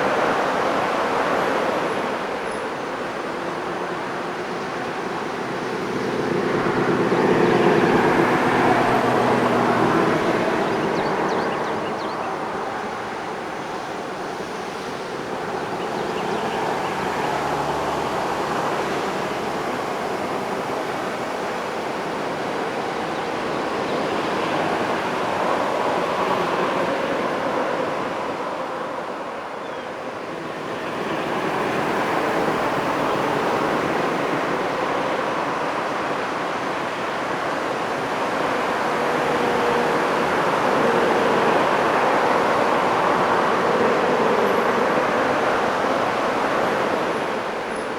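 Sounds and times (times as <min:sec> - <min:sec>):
cars passing: 0:04.3 - 0:29.4, 0:30.3 - 0:47.9.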